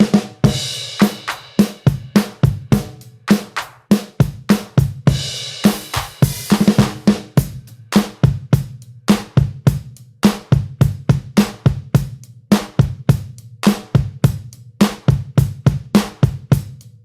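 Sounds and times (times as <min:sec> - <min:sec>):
drum kit playing a steady beat: 0:00.0 - 0:17.0.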